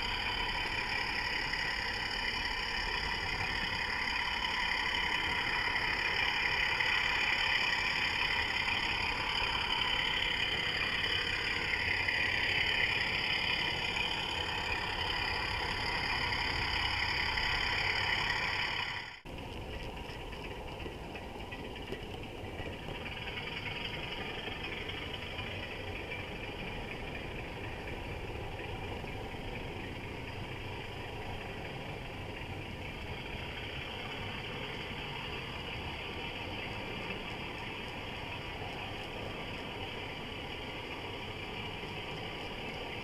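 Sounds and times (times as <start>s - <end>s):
model locomotive engine drone: 0.0s - 43.0s.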